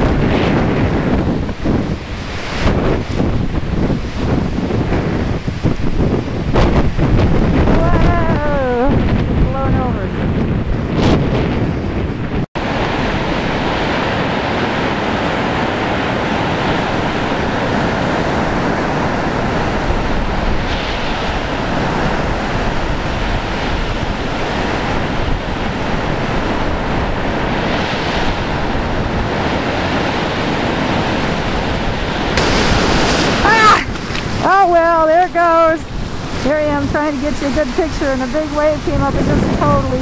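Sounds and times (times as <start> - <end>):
waves crashing on beach: 0.0 - 40.0.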